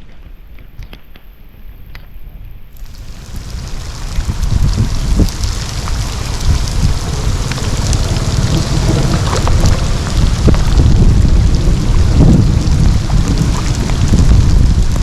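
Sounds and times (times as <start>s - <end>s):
rain and running water: 2.8s - 15.0s
sharp taps and splashes: 2.8s - 15.0s.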